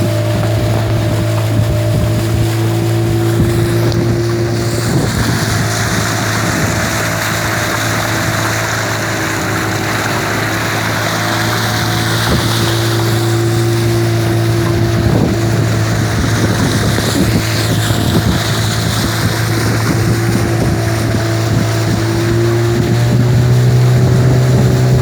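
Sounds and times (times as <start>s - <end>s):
motorboat engine running: 0.0s - 25.0s
rushing water: 0.0s - 25.0s
wind on microphone: 0.0s - 25.0s.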